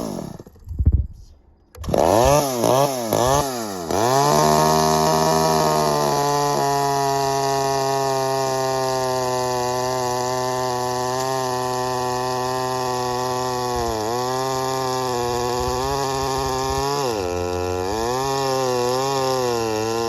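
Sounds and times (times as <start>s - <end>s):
chainsaw boring into wood: 0.0s - 0.6s, 1.8s - 20.0s.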